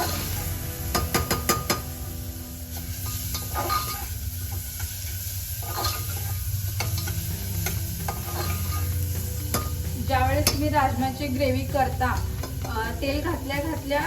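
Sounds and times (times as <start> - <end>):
masala sizzling in oil: 0.0 - 14.0
spatula scraping pan: 2.7 - 14.0.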